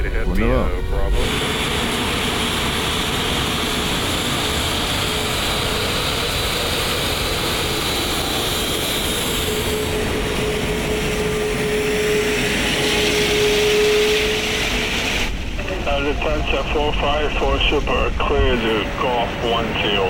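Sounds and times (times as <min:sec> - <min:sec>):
steady cockpit hum: 0:00.0 - 0:05.7, 0:08.8 - 0:20.0
jet engines idling: 0:00.0 - 0:20.0.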